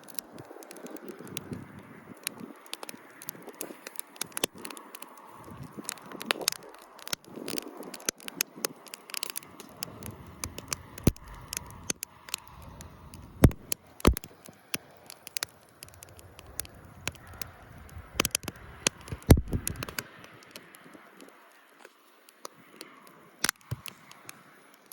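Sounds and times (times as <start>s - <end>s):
campfire crackling and popping: 0.0s - 24.9s.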